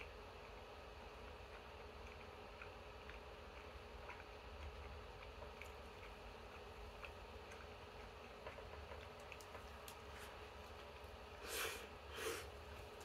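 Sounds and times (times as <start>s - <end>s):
faint chewing: 0.0s - 13.0s
low room hum: 0.0s - 13.0s.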